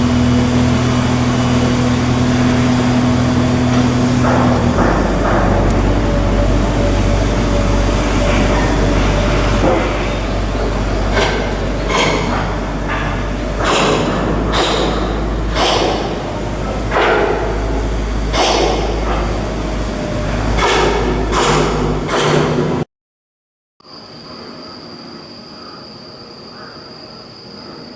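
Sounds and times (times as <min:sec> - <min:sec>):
machinery hum: 0:00.0 - 0:22.8, 0:23.9 - 0:27.9.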